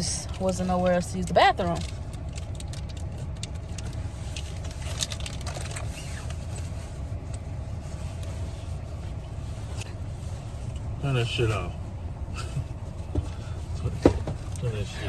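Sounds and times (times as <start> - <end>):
car engine rumble inside cabin: 0.0 - 15.0.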